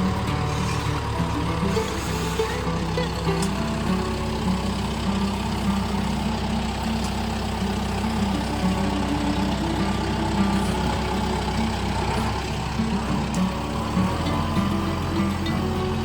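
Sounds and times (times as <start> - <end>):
sawmill engine sawing a log: 0.0 - 16.0.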